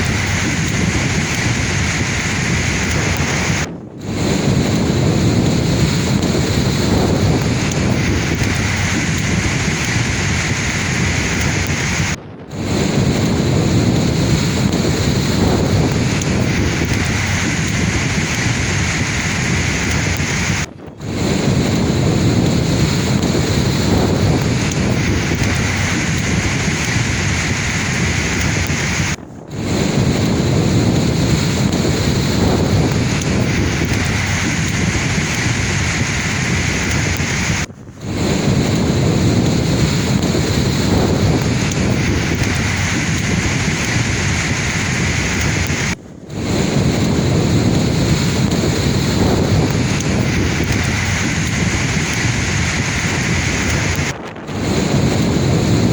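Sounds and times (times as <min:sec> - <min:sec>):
sea waves washing: 0:00.0 - 0:55.9.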